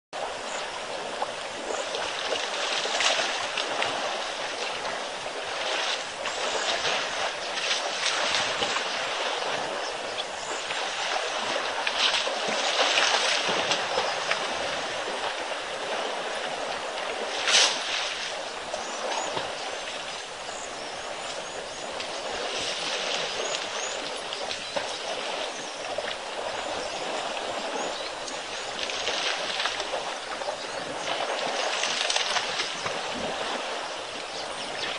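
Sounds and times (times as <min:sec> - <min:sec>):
water and mud sloshing: 0:00.2 - 0:34.9.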